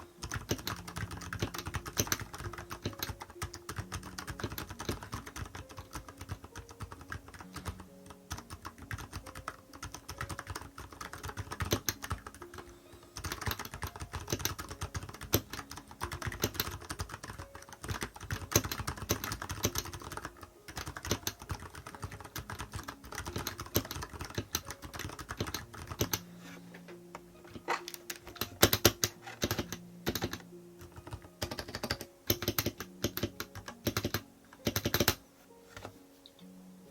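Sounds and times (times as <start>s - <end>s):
muffled keyboard typing: 0.0s - 35.9s.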